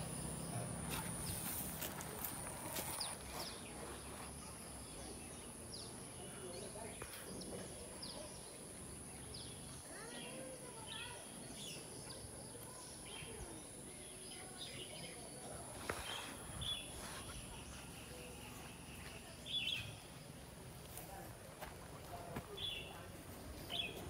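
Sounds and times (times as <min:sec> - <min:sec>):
small birds chirping: 0:00.0 - 0:21.4, 0:22.0 - 0:24.0.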